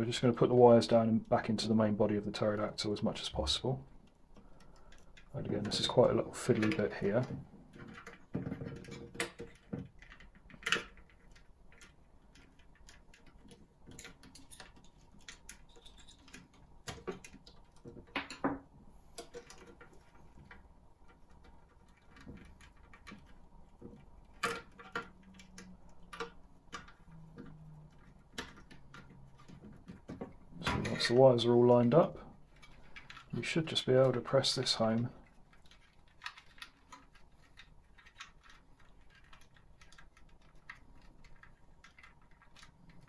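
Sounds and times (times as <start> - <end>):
clicks and taps of plastic parts: 3.9 - 31.1, 32.4 - 43.0.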